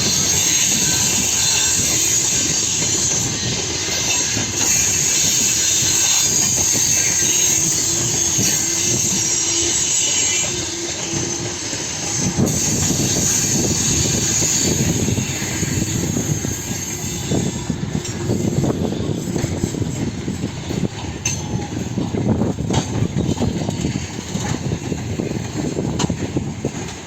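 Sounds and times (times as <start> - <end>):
freight train wheels clattering: 0.0 - 27.0.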